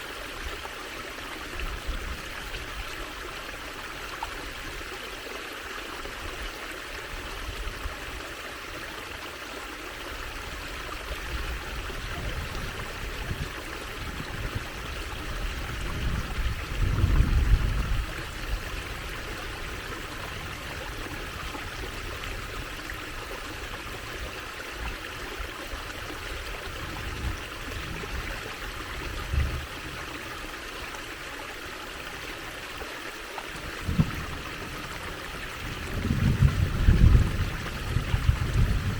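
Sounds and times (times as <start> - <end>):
water trickling and babbling: 0.0 - 38.9.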